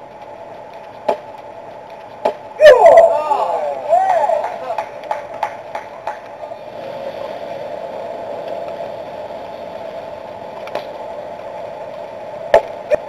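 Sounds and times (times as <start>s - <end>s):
outdoor ambience: 0.0s - 13.0s.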